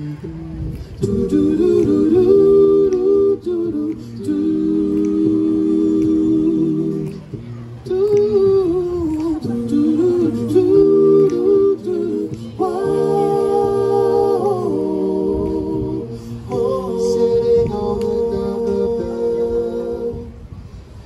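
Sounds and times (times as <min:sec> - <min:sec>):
male vocal group close harmony: 0:01.0 - 0:07.2, 0:07.9 - 0:20.3.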